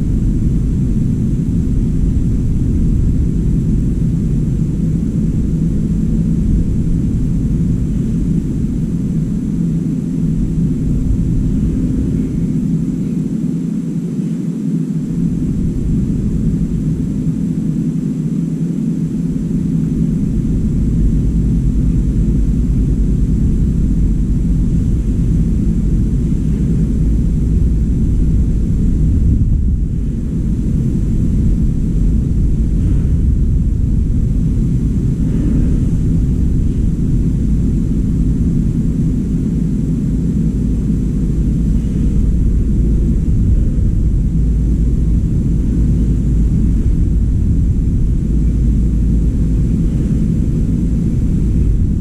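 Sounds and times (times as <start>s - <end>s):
faint hum: 0.0s - 52.0s
steady low rumble: 0.0s - 52.0s.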